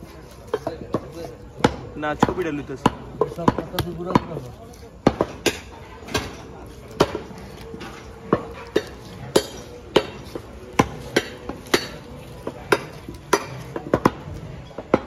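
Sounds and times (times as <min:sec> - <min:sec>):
knife chopping meat: 0:00.1 - 0:15.0.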